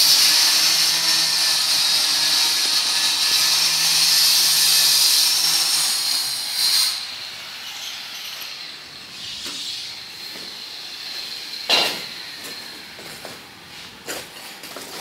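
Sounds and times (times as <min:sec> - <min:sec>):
stone-cutting saw hissing: 0:00.0 - 0:13.0.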